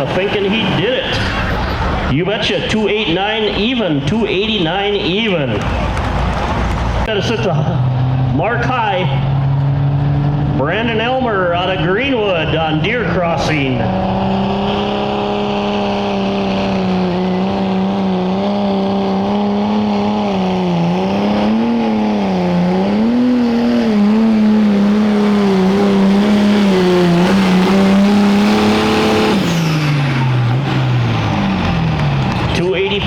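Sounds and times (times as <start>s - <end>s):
engine at high revs: 3.2s - 33.0s.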